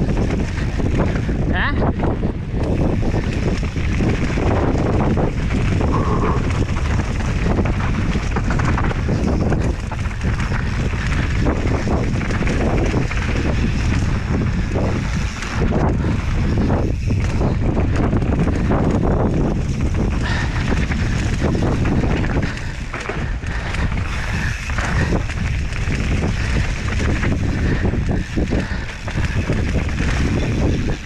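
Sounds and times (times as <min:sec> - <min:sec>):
bike clattering over rough ground: 0:00.0 - 0:31.0
wind buffeting microphone: 0:00.0 - 0:31.0.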